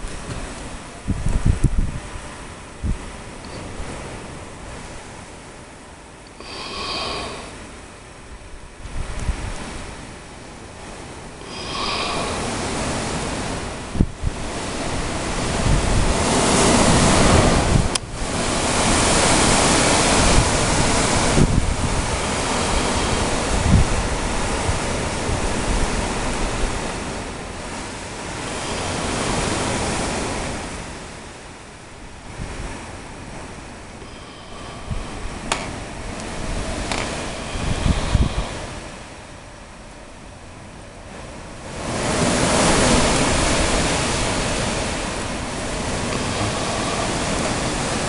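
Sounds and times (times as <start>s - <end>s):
gusty wind buffeting microphone: 0.0s - 48.0s.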